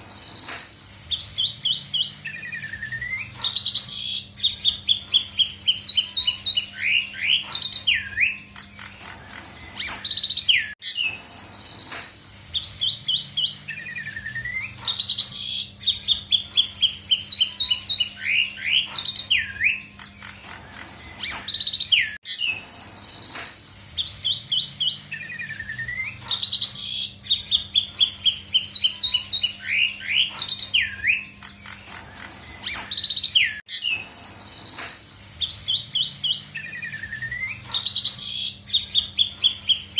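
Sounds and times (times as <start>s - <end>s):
starling singing whistled notes: 0.0s - 39.9s.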